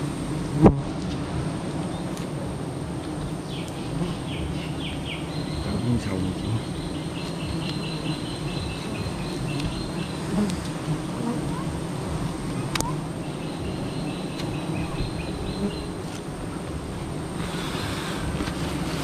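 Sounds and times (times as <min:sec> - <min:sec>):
insect chirping and trilling: 0:01.8 - 0:19.0.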